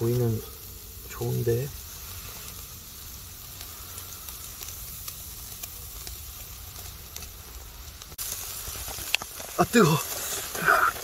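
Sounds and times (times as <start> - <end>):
charcoal pops and crackles: 0.0 - 11.0
meat sizzling on grill: 0.0 - 11.0.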